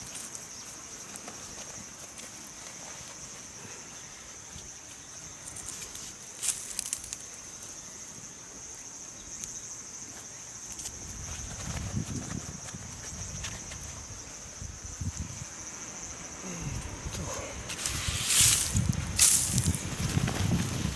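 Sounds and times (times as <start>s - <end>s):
insects chirring: 0.0s - 20.9s.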